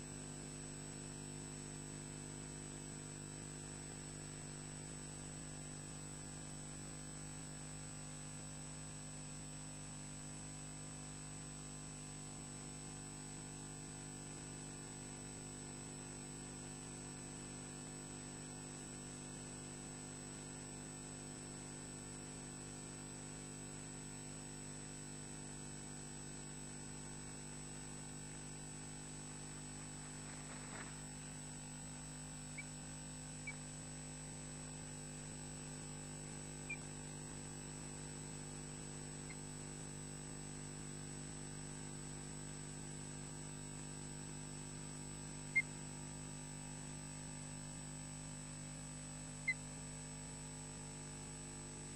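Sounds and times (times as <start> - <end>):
electrical mains hum: 0.0 - 51.9.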